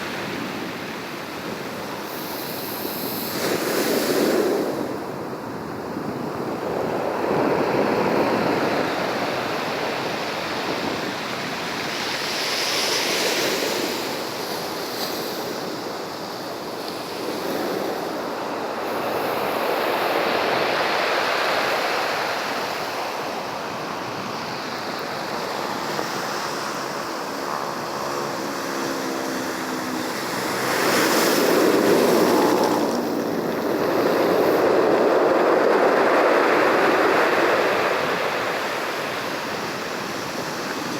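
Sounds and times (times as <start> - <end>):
waves breaking and washing in: 0.0 - 40.9.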